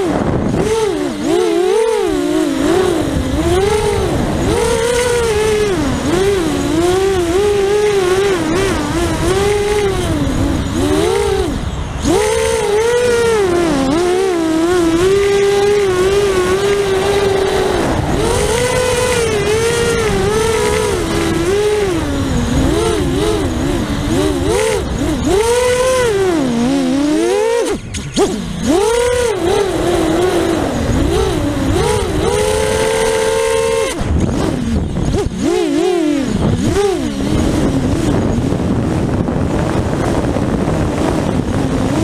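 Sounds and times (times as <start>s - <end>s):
low wind rush: 0.0s - 42.0s
quadcopter motors whining: 0.0s - 42.0s.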